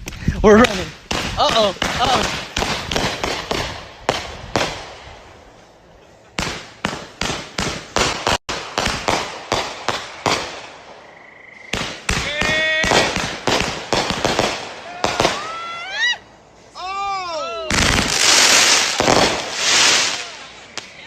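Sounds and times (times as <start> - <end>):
fireworks bangs: 0.5 - 5.7, 6.3 - 16.1, 17.6 - 21.0.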